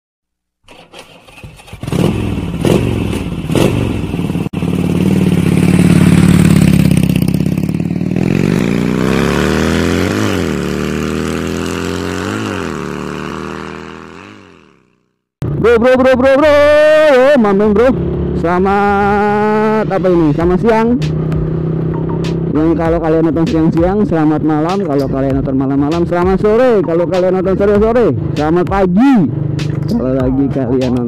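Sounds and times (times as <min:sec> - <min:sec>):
motorcycle engine starting and revving: 0:00.6 - 0:15.8, 0:16.8 - 0:31.0.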